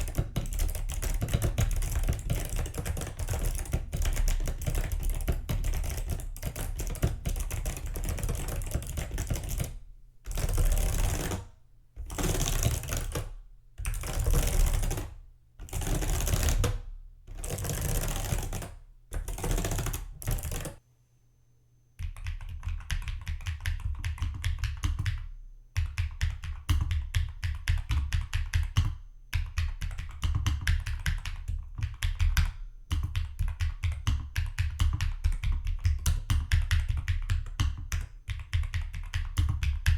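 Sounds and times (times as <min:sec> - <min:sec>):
mechanical keyboard typing: 0:00.0 - 0:11.4, 0:12.0 - 0:20.8, 0:22.0 - 0:39.9.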